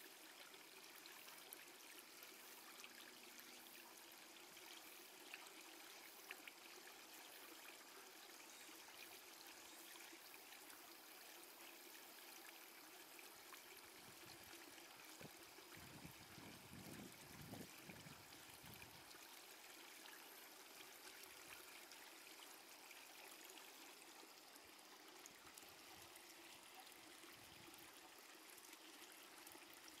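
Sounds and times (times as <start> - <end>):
stream water trickling: 0.0 - 30.0.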